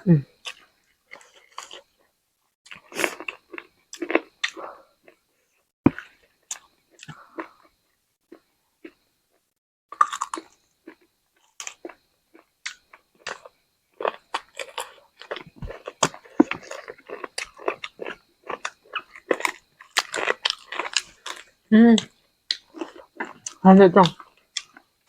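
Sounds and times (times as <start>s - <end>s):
chewing crispy food: 0.4s - 24.9s.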